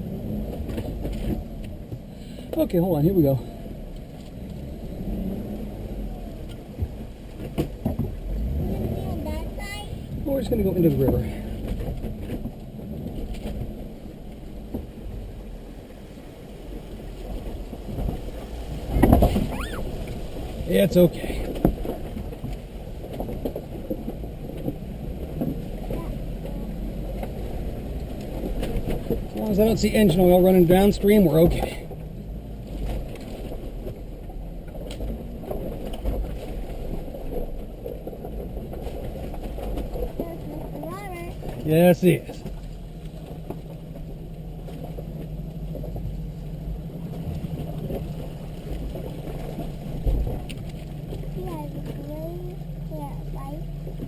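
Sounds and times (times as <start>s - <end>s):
vehicle engine rumbling: 0.0s - 54.0s
water splashing around vehicle: 0.0s - 54.0s.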